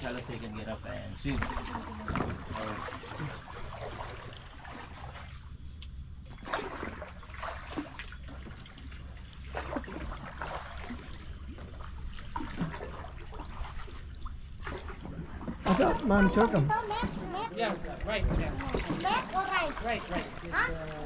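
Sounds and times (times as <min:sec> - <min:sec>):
paddle strokes through water: 0:00.0 - 0:05.4, 0:06.2 - 0:16.2, 0:16.9 - 0:21.0
water drips and splashes: 0:00.0 - 0:16.1, 0:17.9 - 0:21.0.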